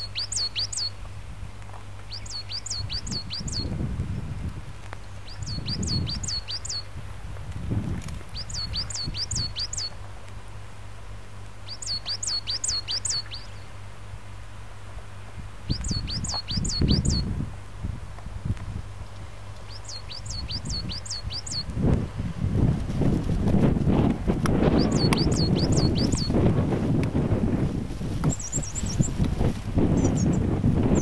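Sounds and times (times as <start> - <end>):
songbird singing: 0.0 - 31.0.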